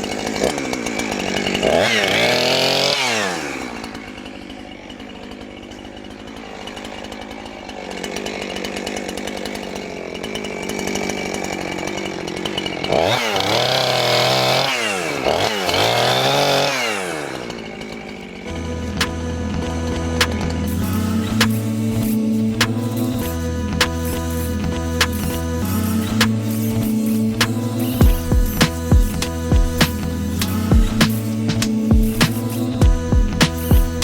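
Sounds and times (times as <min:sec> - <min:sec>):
chainsaw engine revving: 0:00.0 - 0:34.0.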